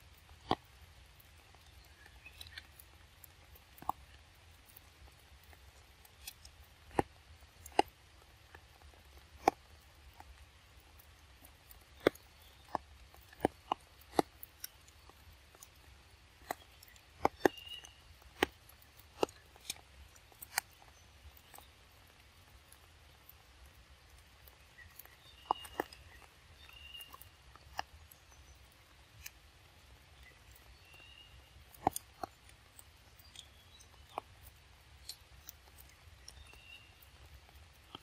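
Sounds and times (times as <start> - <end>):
monkeys chewing fruit: 0.0 - 38.0.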